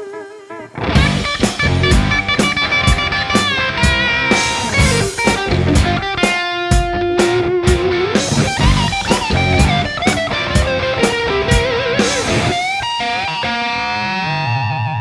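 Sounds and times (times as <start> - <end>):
overdriven electric guitar lead: 0.1 - 15.0.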